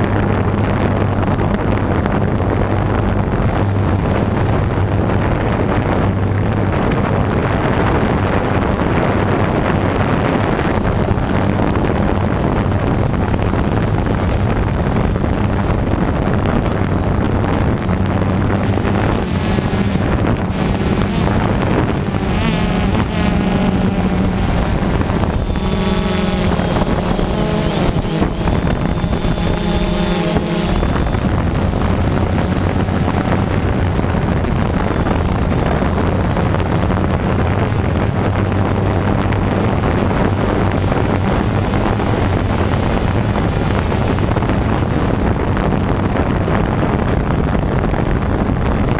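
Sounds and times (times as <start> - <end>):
drone propellers humming: 0.0 - 48.9
wind on microphone: 0.0 - 48.9.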